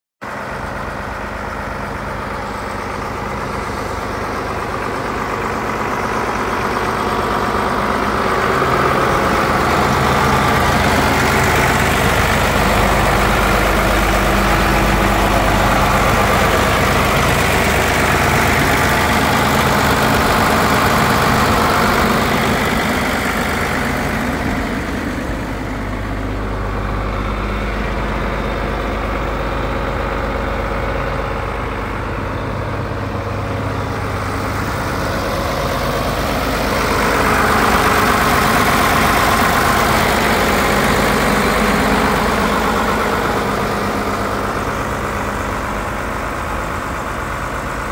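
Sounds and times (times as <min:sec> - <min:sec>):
tractor diesel engine idling: 0:00.2 - 0:47.9.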